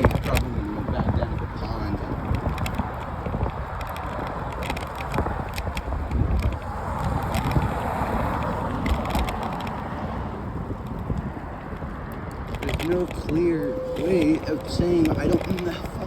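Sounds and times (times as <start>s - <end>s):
small rattles and clicks: 0.0s - 9.9s, 10.8s - 16.0s
bicycle rolling over pavement: 0.0s - 16.0s
wind buffeting microphone: 0.0s - 16.0s.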